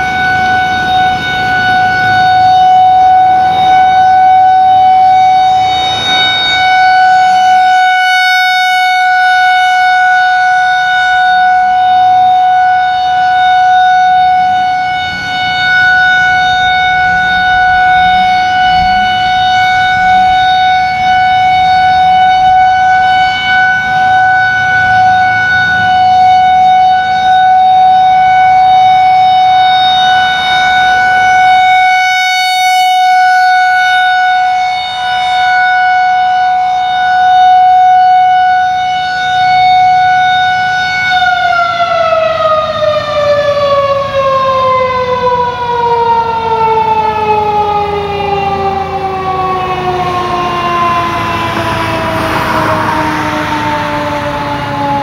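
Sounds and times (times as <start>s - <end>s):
tornado warning siren: 0.0s - 55.0s.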